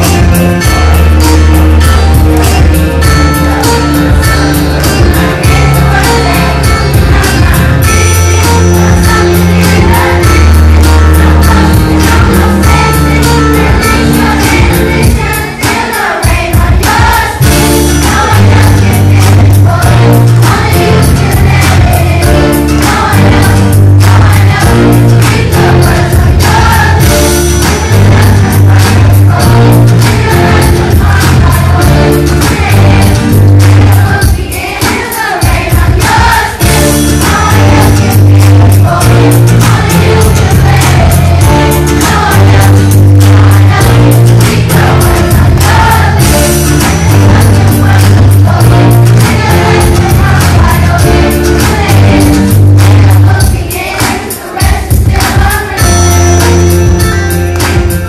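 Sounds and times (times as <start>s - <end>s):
music with heavy bass and beat: 0.0s - 54.0s
children's choir singing: 0.0s - 58.0s.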